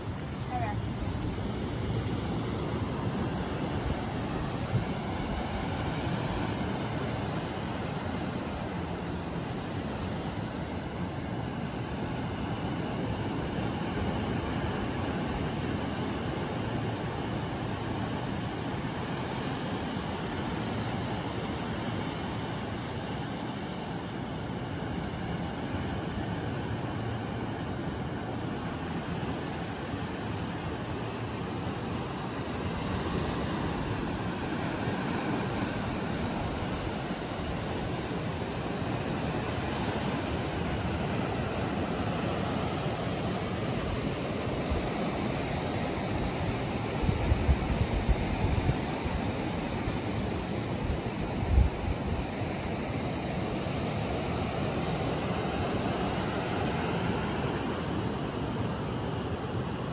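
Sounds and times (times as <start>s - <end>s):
ocean surf rushing: 0.0s - 59.9s
wind: 0.0s - 59.9s.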